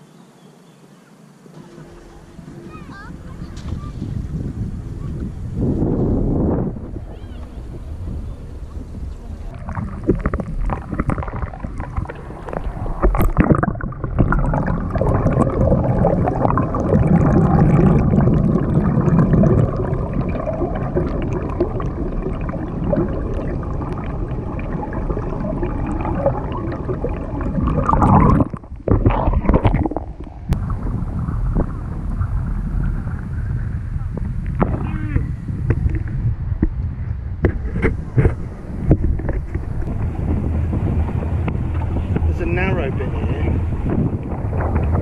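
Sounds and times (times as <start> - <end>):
water gurgling against boat hull: 1.6 - 45.0.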